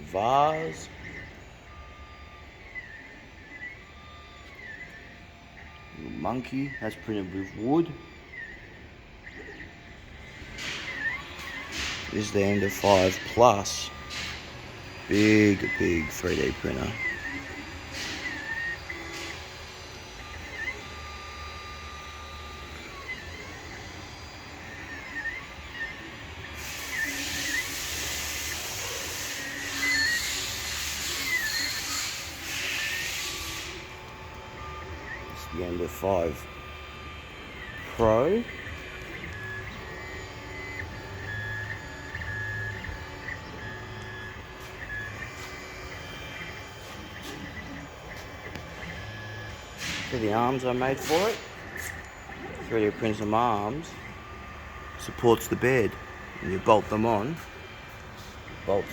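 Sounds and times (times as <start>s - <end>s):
stepper motors whining: 0.0s - 58.9s.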